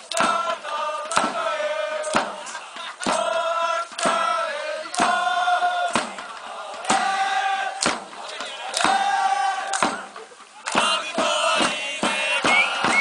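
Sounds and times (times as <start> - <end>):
crowd chanting in unison: 0.0 - 13.0
drum beats: 0.0 - 13.0.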